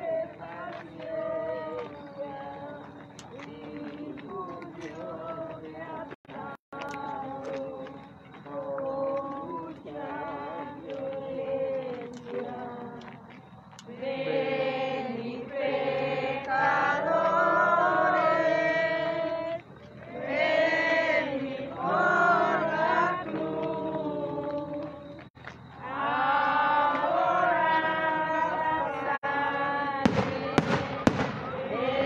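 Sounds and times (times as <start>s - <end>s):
voices singing a hymn: 0.0s - 32.0s.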